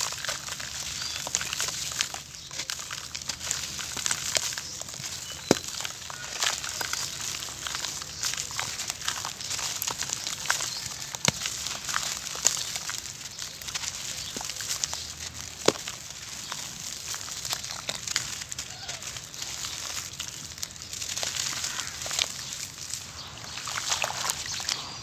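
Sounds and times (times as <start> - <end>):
hands crushing dry grit: 0.0 - 25.0.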